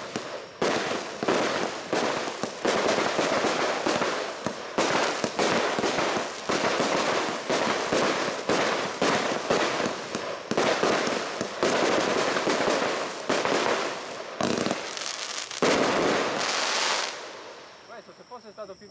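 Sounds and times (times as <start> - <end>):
firework bangs: 0.0 - 17.4.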